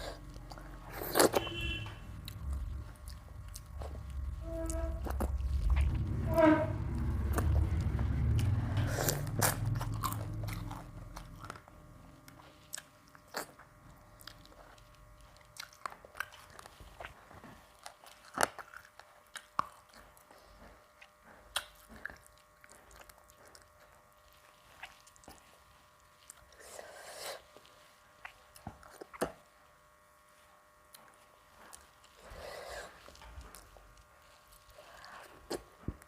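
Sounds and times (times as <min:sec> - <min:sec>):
person chewing and crunching food: 0:00.0 - 0:06.2, 0:06.8 - 0:36.0.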